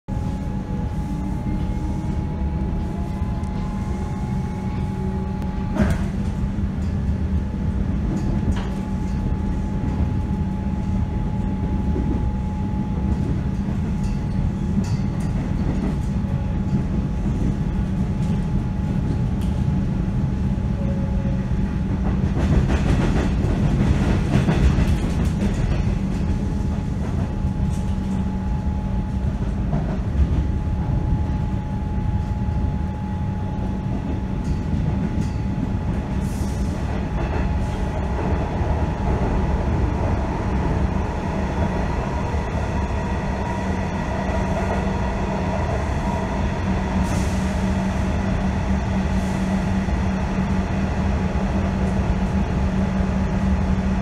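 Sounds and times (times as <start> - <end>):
train wheels rumbling on rails: 0.1 - 54.0.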